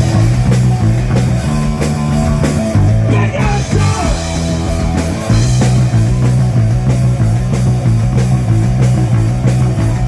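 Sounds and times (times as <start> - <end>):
bass line: 0.0 - 10.0
distorted electric guitar: 0.0 - 10.0
drums: 0.0 - 10.0.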